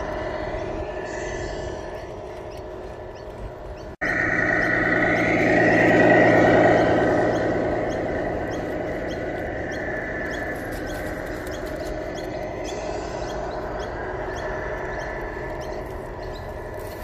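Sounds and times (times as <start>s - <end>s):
rc trucks motor hum: 0.0s - 17.0s
high squeaky chirps: 1.0s - 17.0s.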